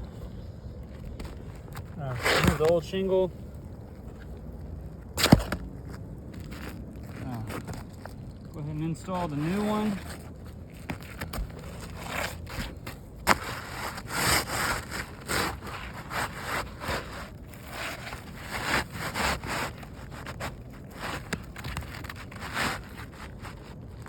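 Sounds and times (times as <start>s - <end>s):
shingle scraping and rubbing: 0.0s - 24.0s.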